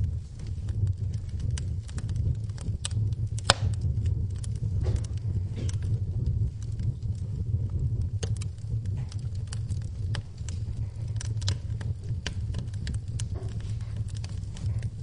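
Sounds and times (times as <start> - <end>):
crackles and pops of burning logs: 0.0 - 15.0
low rumble of flames: 0.0 - 15.0.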